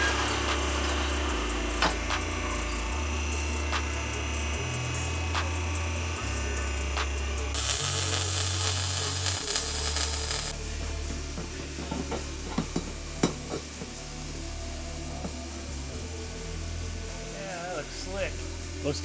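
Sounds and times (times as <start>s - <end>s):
welder crackling hiss: 0.0s - 10.7s, 11.4s - 19.0s
background music with bass line: 0.0s - 19.0s.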